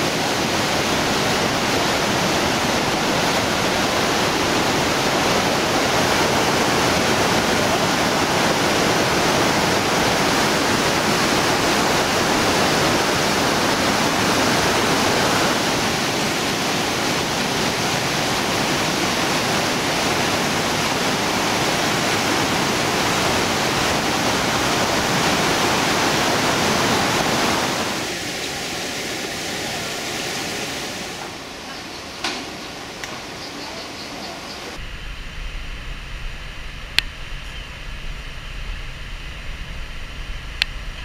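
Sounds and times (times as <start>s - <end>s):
river rapids rushing: 0.0s - 34.8s
whitewater rushing: 0.0s - 34.8s.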